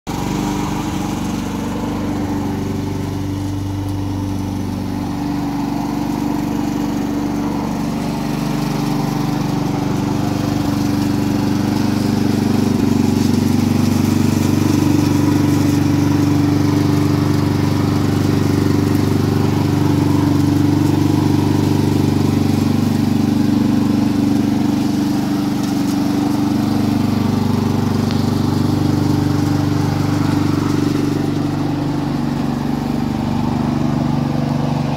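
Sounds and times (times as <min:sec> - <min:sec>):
lawn mower engine running: 0:00.0 - 0:34.9.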